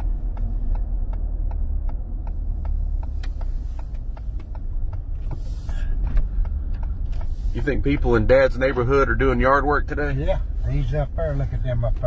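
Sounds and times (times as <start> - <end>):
car road and engine rumble: 0.0 - 12.0
light regular ticking: 0.0 - 12.0.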